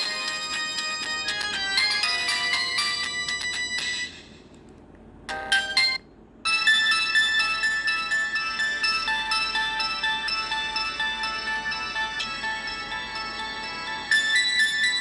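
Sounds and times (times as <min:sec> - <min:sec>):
mobile phone ringtone melodies: 0:00.0 - 0:04.1, 0:05.3 - 0:15.0.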